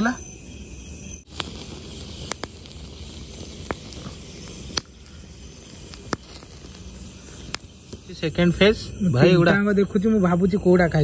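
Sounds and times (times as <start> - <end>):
wood fire hissing and crackling: 0.0 - 11.0.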